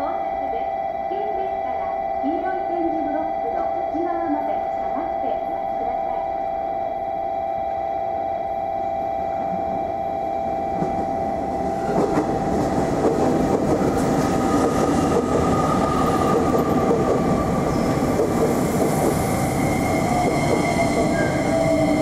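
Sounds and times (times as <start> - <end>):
train passing rail noise: 0.0 - 6.3, 8.4 - 22.0.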